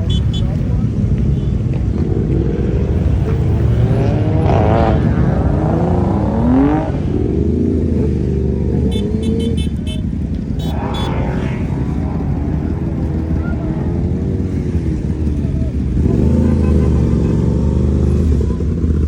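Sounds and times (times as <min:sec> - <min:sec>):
car engine revving: 0:02.0 - 0:19.0.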